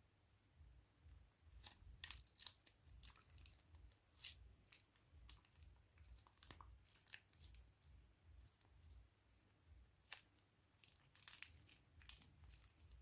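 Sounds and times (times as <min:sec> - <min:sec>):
slime crackling and crinkling: 0:01.5 - 0:09.0, 0:10.0 - 0:13.0.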